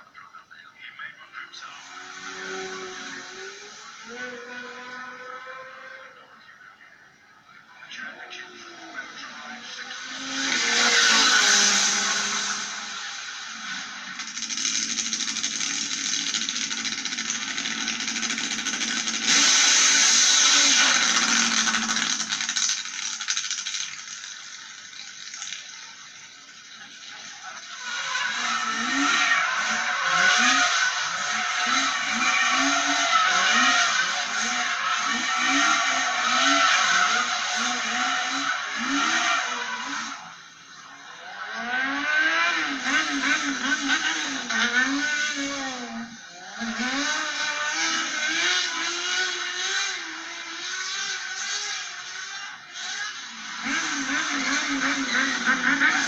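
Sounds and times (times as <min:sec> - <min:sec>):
car engine revving: 0:01.5 - 0:56.0.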